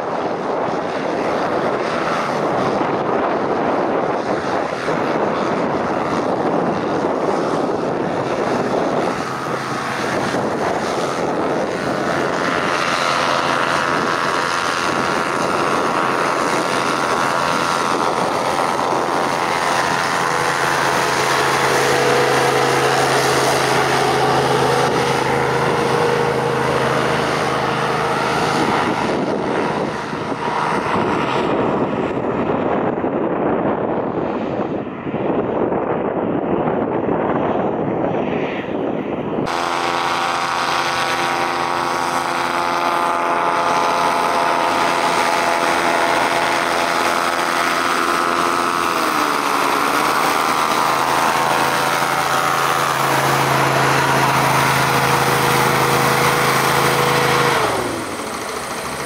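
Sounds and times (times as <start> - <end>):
hovercraft engine drone: 0.0 - 59.0
wind buffeting microphone: 0.0 - 59.0.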